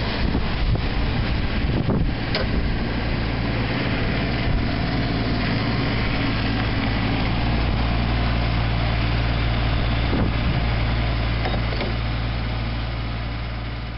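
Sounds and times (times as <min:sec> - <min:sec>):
diesel mower engine running: 0:00.0 - 0:13.9.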